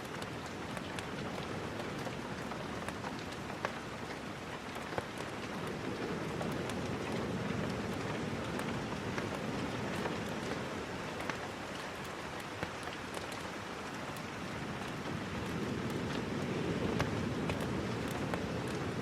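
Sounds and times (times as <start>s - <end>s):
sharp ticks of raindrops: 0.0s - 19.0s
steady rain falling: 0.0s - 19.0s.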